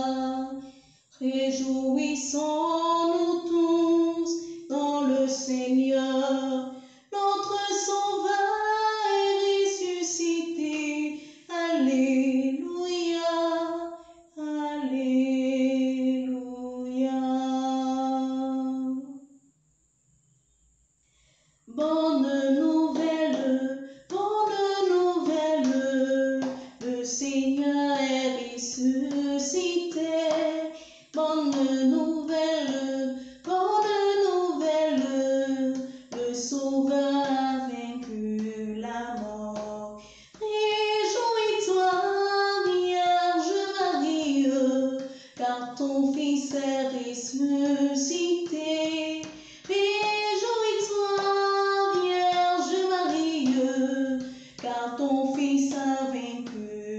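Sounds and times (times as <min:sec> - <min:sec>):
woman singing a hymn unaccompanied: 0:00.0 - 0:19.2, 0:21.7 - 0:56.9.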